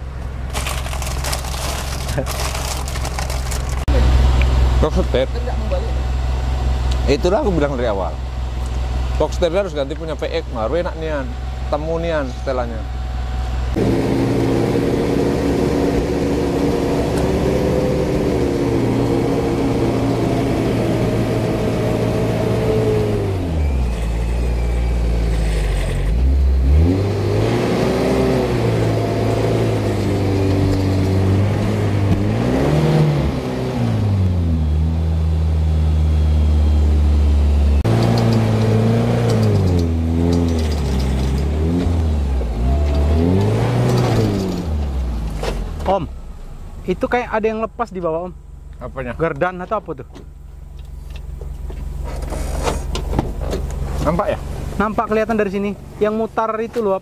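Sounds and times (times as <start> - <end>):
off-road vehicle engine straining: 0.0 - 57.0.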